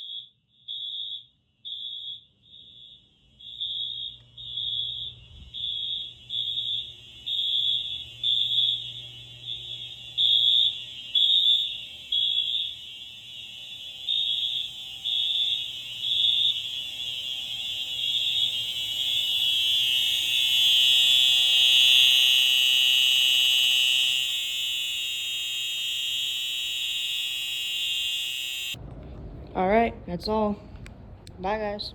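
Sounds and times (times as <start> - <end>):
fire alarm horns beeping: 0.0 - 28.8.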